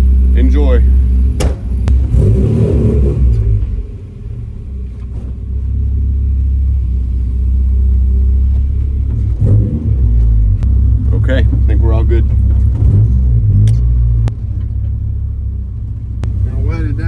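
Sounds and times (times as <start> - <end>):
car engine running from inside: 0.0 - 17.0.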